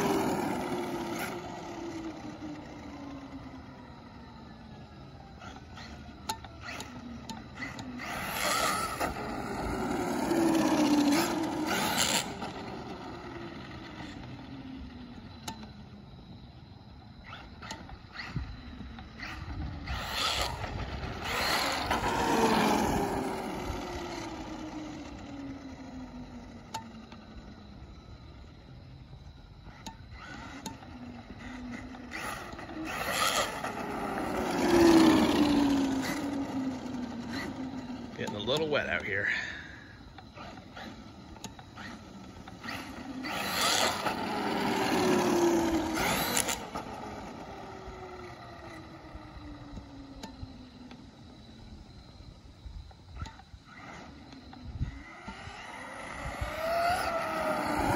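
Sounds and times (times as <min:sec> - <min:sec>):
rc truck motor whine: 0:00.0 - 0:57.9.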